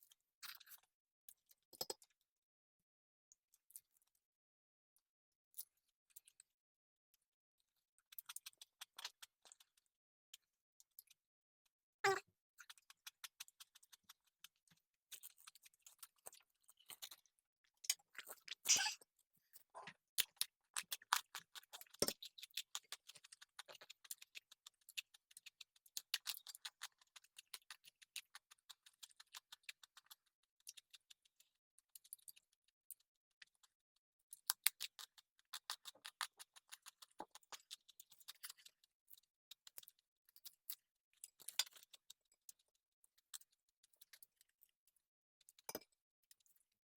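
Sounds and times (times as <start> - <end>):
chewing with crisp crunches: 0.0 - 2.2, 8.0 - 11.2, 12.1 - 46.8.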